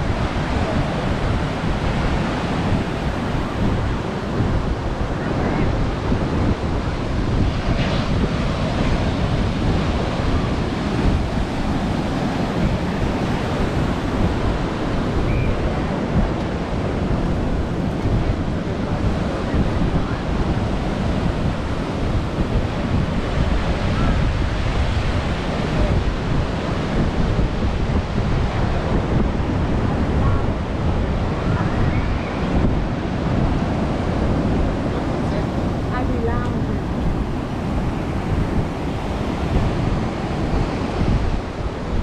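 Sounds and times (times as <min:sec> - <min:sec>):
ocean surf breaking: 0:00.0 - 0:42.0
wind buffeting microphone: 0:00.0 - 0:42.0.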